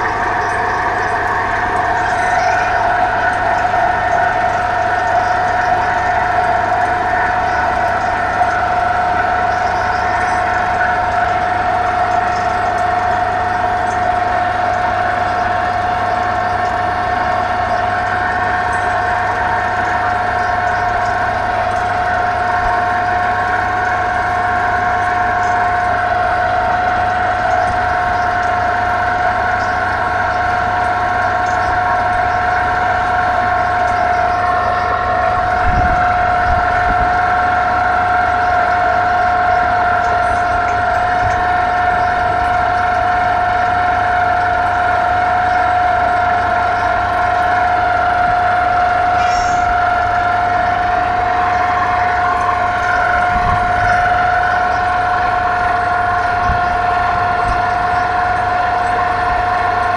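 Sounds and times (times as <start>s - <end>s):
machinery engine drone with whine: 0.0s - 59.9s.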